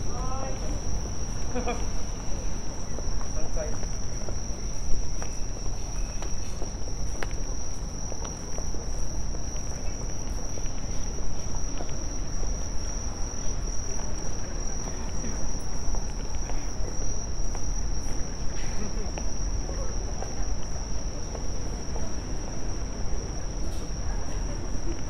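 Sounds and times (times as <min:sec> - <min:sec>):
city street rumble: 0:00.0 - 0:25.0
crickets trilling: 0:00.0 - 0:25.0.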